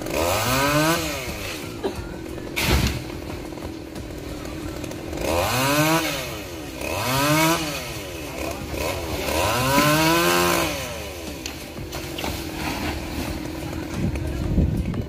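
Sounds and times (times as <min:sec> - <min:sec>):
chainsaw revving: 0:00.0 - 0:14.1.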